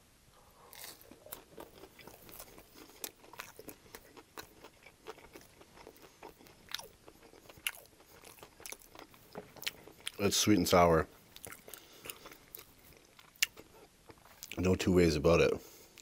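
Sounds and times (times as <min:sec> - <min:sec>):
person chewing crunchy food: 0:00.6 - 0:14.6.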